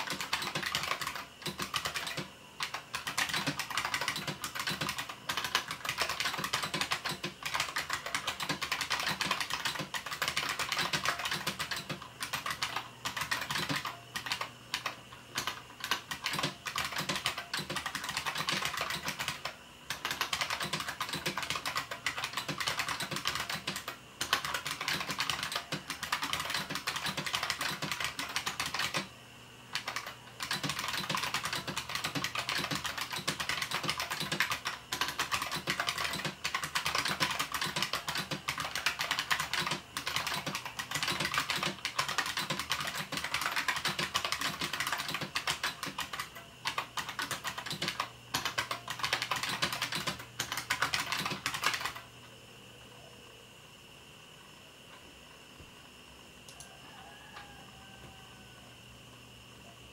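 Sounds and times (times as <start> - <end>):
mechanical keyboard typing: 0.0 - 29.1, 29.7 - 52.1.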